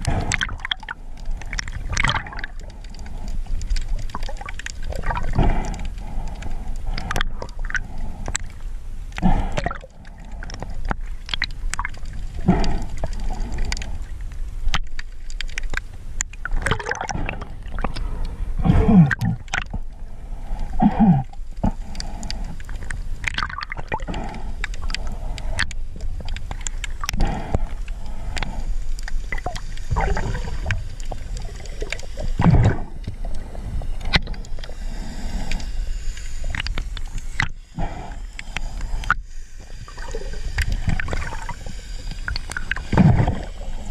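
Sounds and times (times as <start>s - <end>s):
underwater rumble with gurgling: 0.0s - 43.9s.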